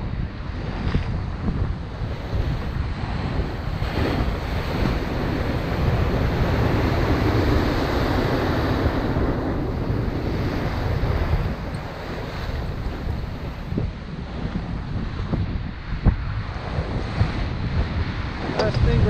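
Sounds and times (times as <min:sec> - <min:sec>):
ocean surf breaking on rocks: 0:00.0 - 0:19.0
wind buffeting microphone: 0:00.0 - 0:19.0.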